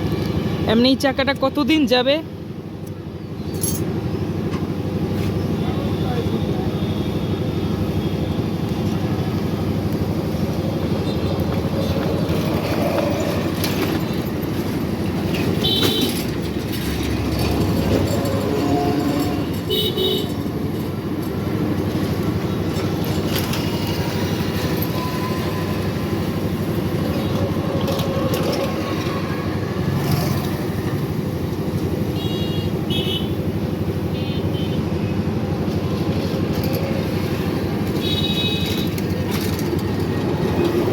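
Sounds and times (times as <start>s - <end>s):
traffic engines rumbling: 0.0s - 40.9s.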